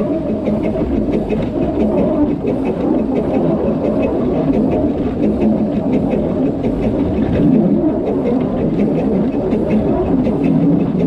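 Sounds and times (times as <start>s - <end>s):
faint regular ticking: 0.0s - 11.0s
steam locomotive rumbling: 0.0s - 11.0s.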